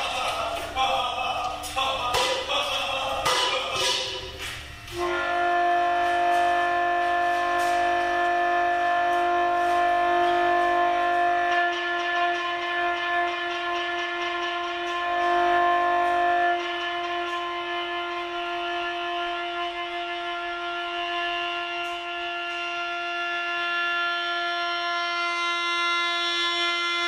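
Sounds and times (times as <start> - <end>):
steady horn-like tone: 2.1 - 27.0.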